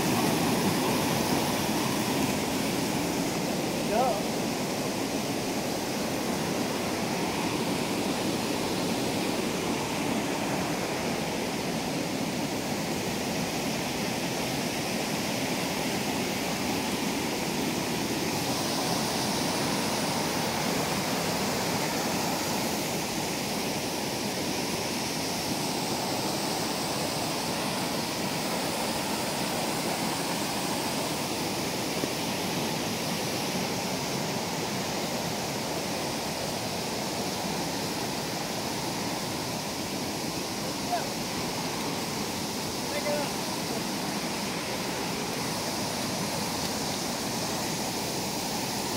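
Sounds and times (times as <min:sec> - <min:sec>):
waterfall rushing over rocks: 0:00.0 - 0:48.9.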